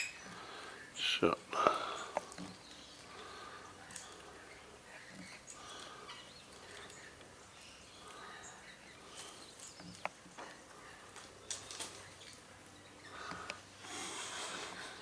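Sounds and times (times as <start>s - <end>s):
small birds chirping and calling: 0.0s - 15.0s.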